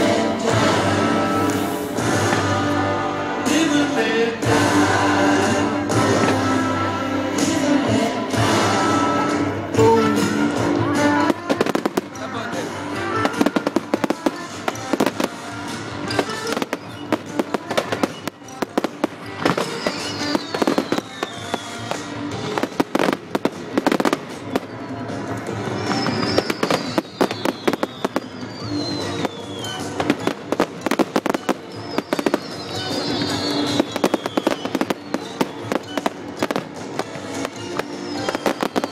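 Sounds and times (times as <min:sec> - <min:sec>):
fireworks falling whistles: 0:00.0 - 0:04.0, 0:08.3 - 0:38.9
fireworks bangs and crackling: 0:00.0 - 0:38.9
music playing: 0:00.0 - 0:38.9.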